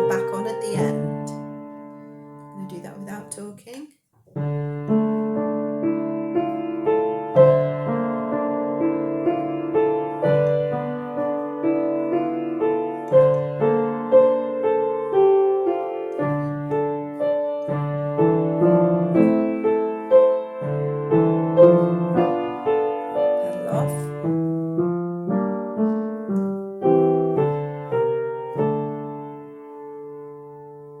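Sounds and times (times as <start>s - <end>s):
piano playing: 0.0s - 3.6s, 4.3s - 31.0s.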